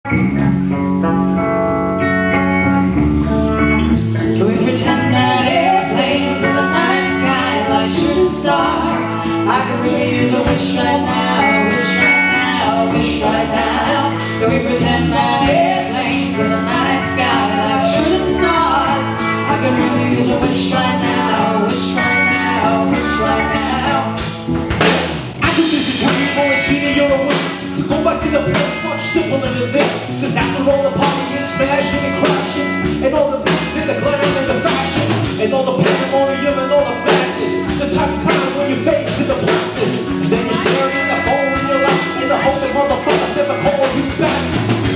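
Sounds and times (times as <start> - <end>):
electric guitar and bass: 0.0 - 44.9
drum kit beat: 2.3 - 44.9.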